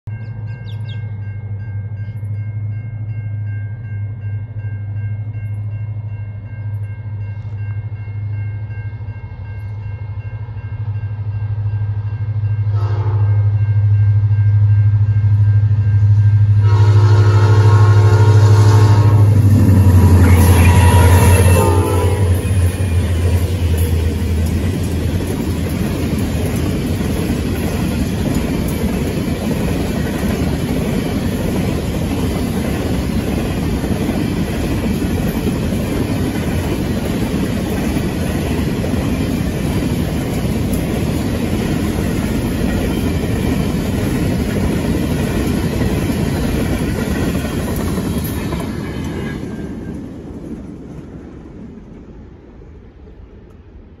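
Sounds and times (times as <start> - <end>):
train wheels rumbling on rail: 0.1 - 54.0.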